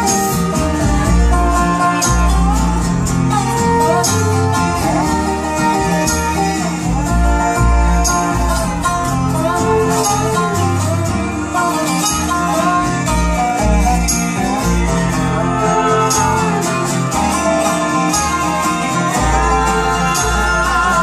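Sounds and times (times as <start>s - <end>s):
acoustic guitars picking and strumming: 0.0s - 21.0s
melodic lead line: 0.0s - 21.0s
upright bass notes: 0.0s - 21.0s.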